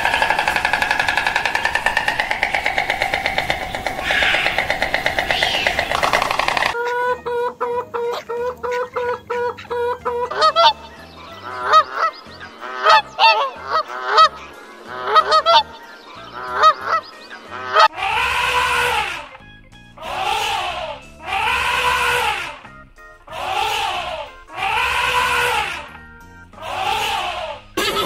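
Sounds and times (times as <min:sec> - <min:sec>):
birds honking: 0:00.0 - 0:28.0.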